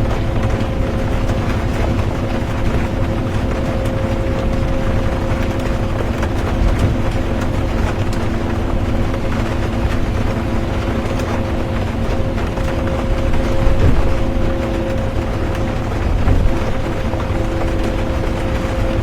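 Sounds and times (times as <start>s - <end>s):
bus engine hum: 0.0s - 19.0s
rain ticking on bus: 0.0s - 19.0s
road rumble: 0.0s - 19.0s.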